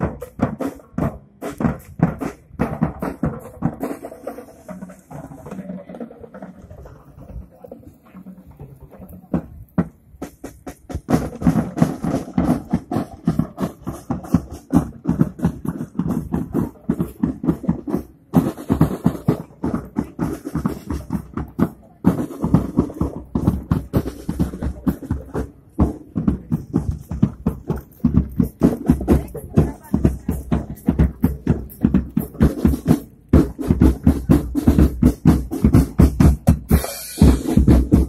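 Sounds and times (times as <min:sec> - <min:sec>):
music with steady drum beat: 0:00.0 - 0:38.0.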